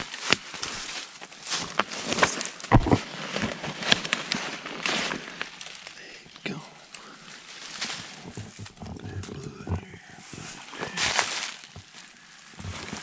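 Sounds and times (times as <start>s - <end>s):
footsteps crunching on dry leaves: 0.0s - 6.0s, 7.3s - 8.8s, 9.4s - 13.0s.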